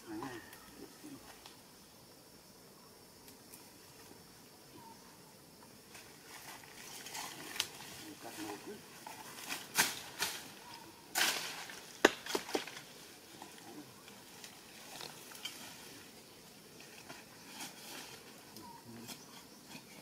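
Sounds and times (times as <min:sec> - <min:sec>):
rustling of brush and leaves: 0:03.1 - 0:20.0.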